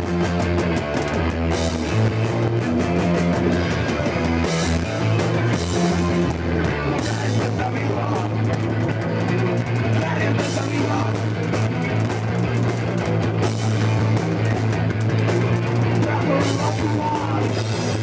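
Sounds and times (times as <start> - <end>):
punk band playing live: 0.0 - 18.0.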